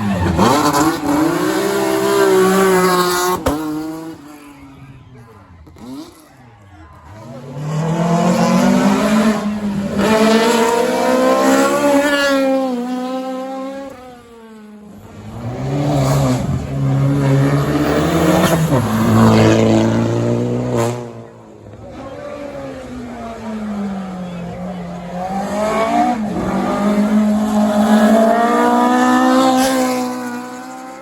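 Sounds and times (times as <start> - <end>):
rally car engine at hard throttle: 0.0 - 31.0.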